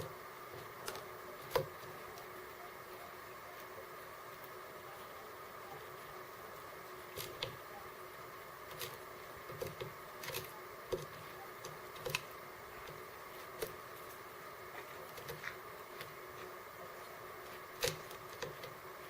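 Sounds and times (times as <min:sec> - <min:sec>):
birds pecking seeds: 0:00.0 - 0:19.0
faint hum: 0:00.0 - 0:19.0.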